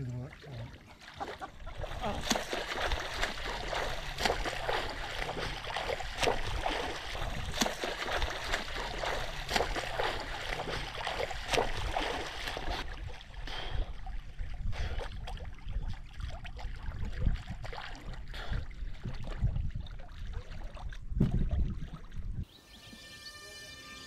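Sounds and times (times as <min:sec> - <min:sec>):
small waves lapping: 0:00.0 - 0:22.6
swimming strokes splashing: 0:00.4 - 0:22.2.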